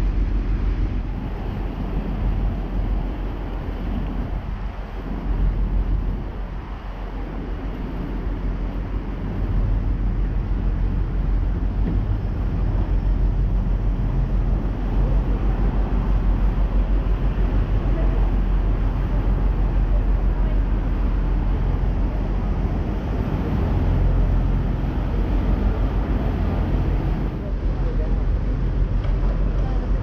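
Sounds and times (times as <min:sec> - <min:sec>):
boat engine droning: 0:00.0 - 0:30.0
rush of wind and water: 0:00.0 - 0:30.0.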